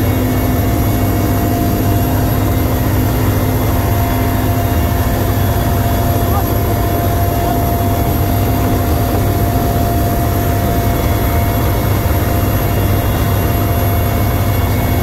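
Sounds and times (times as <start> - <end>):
helicopter engine and rotor drone: 0.0 - 15.0
high engine whine: 0.0 - 15.0.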